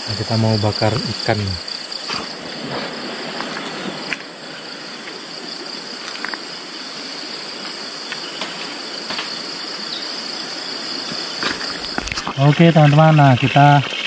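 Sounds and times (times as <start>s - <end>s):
background hiss: 0.0s - 14.0s
insect buzz: 0.0s - 14.0s
pulsing insect trill: 0.0s - 14.0s.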